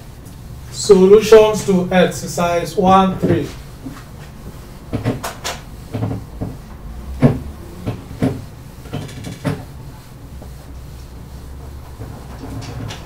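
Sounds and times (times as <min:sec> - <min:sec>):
eraser rubbing whiteboard: 0:00.8 - 0:13.0.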